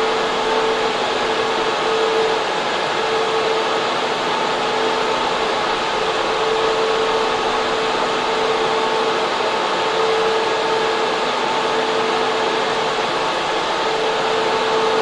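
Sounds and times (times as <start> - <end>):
constant hum: 0.0 - 15.0
cooling fans rushing air: 0.0 - 15.0.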